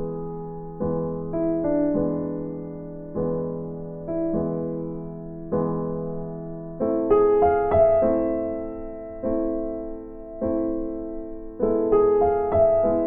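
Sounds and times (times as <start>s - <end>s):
piano-like keyboard chords: 0.0s - 13.0s.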